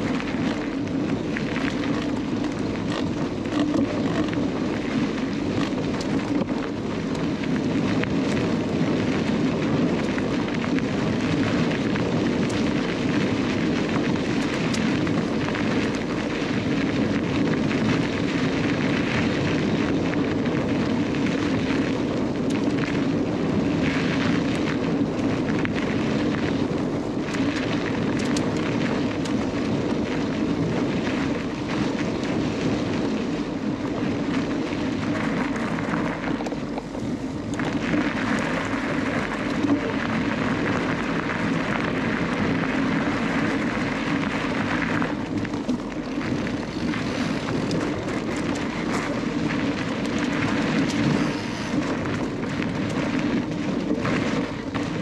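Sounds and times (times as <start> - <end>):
bike rattles and clicks: 0.0 - 55.0
wind and tyre noise: 0.0 - 55.0.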